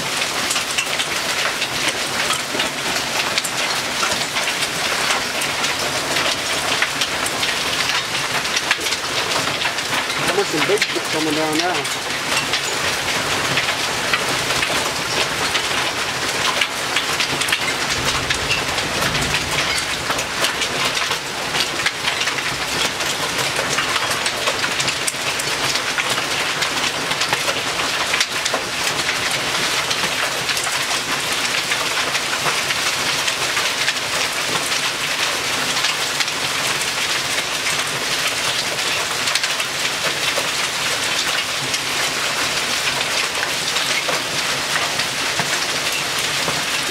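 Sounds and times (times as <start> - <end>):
hail rattling: 0.0 - 46.9
rain hiss: 0.0 - 46.9.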